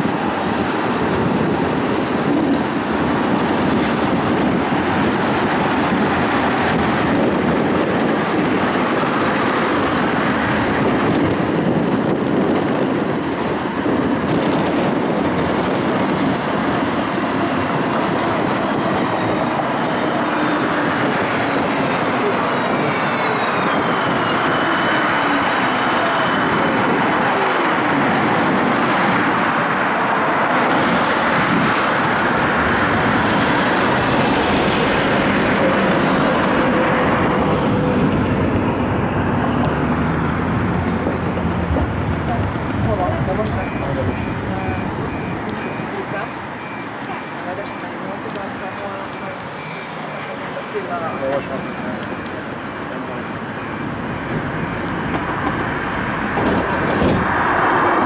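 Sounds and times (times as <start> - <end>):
faint tram whines: 0.0 - 58.0
tram rolling noise: 0.0 - 58.0.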